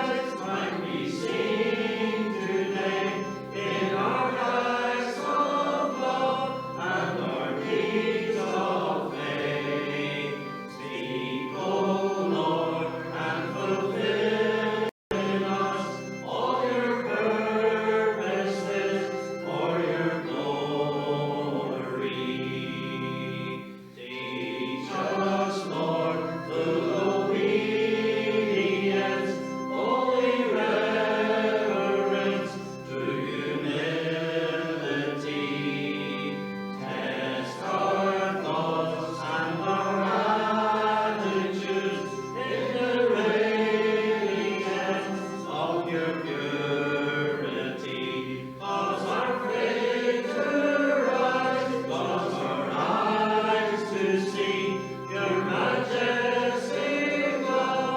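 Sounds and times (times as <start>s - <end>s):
congregation singing a hymn: 0.0s - 57.9s
sustained instrumental accompaniment: 0.0s - 57.9s.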